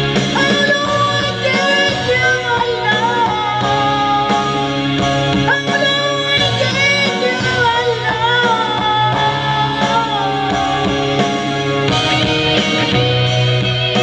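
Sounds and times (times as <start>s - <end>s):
rock backing band playing: 0.0s - 14.0s
man singing into microphone: 0.3s - 11.6s.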